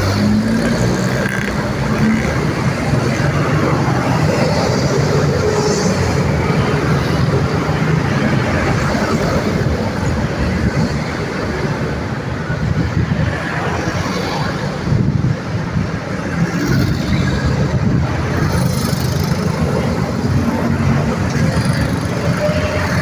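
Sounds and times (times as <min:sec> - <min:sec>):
busy road traffic: 0:00.0 - 0:23.0.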